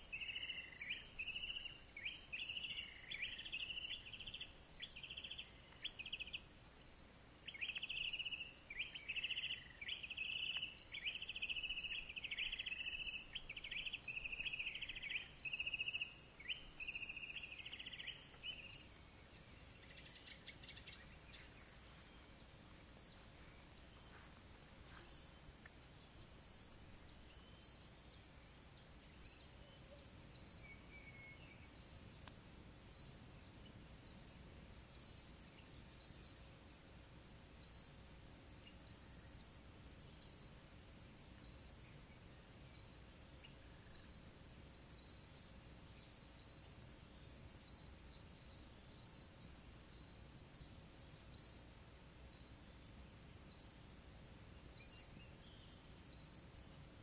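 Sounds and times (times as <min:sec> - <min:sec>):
crickets and cicadas chorus: 0:00.0 - 0:57.0.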